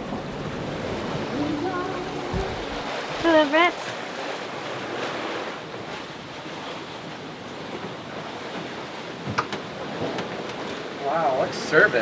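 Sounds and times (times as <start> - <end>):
rushing sea: 0.0 - 12.0
wind: 0.0 - 12.0.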